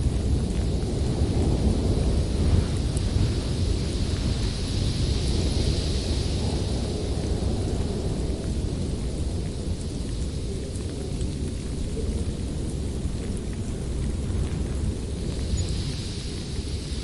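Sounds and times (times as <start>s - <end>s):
howling wind: 0.0s - 17.0s.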